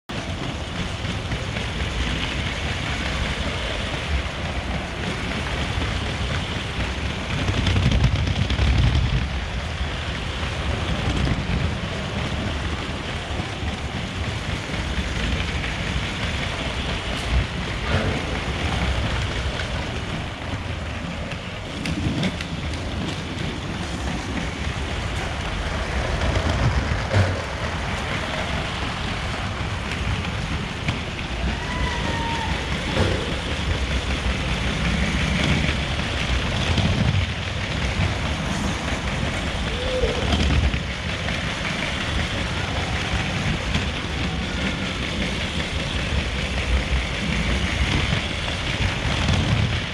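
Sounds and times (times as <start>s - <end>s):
toy train rumbling on track: 0.1s - 49.9s.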